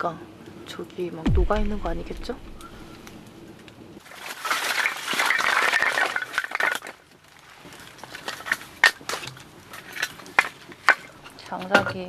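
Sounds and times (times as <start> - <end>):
crinkling crunching rustle: 1.3 - 11.6.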